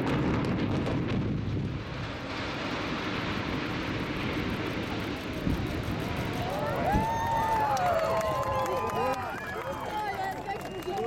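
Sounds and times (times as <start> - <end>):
building collapse rumble: 0.0 - 10.8.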